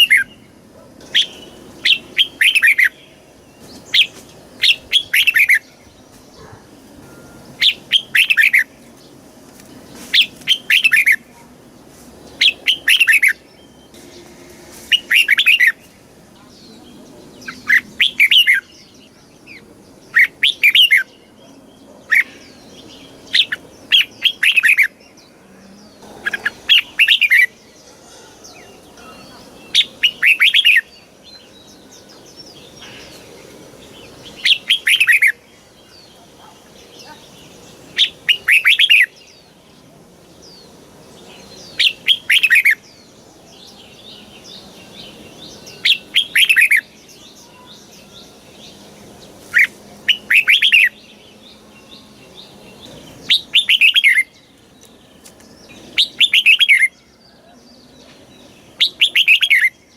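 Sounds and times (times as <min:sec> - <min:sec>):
bird singing: 0:00.0 - 0:59.9
faint bird chirping: 0:00.0 - 0:59.9.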